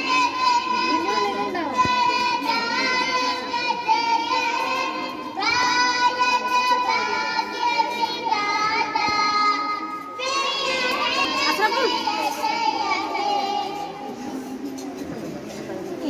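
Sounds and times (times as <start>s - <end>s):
children singing together: 0.0s - 14.6s.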